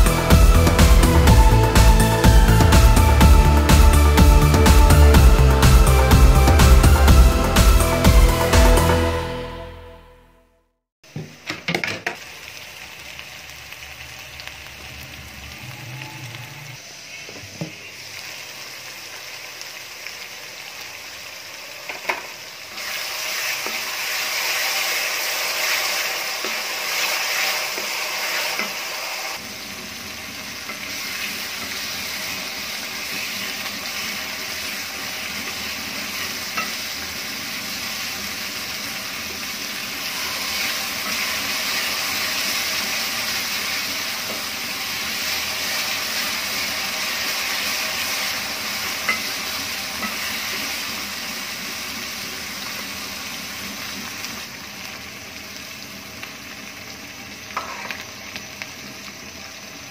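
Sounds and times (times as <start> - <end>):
masala sizzling in oil: 11.0 - 59.9.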